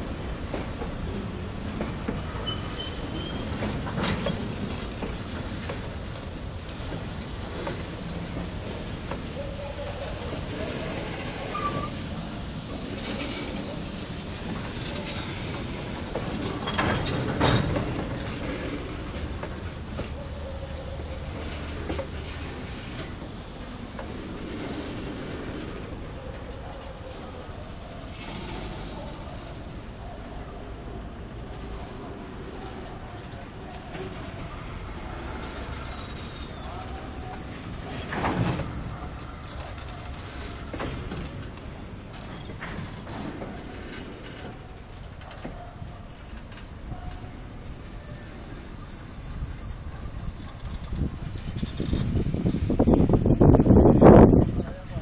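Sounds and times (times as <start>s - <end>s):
railway cars rumbling over rails: 0.0s - 55.0s.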